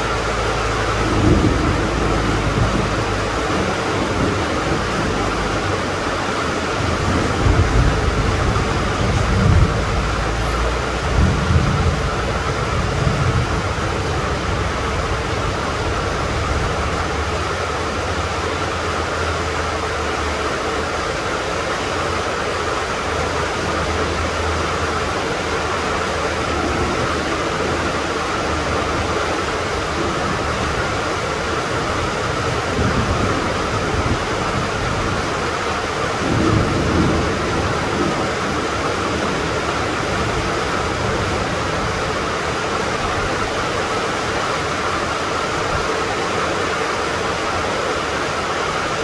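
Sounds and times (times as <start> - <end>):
heavy rain hissing: 0.0 - 49.0.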